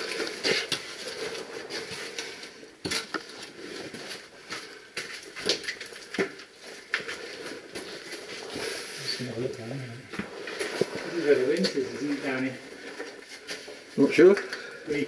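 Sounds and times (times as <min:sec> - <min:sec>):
soft rustle: 0:00.0 - 0:14.0.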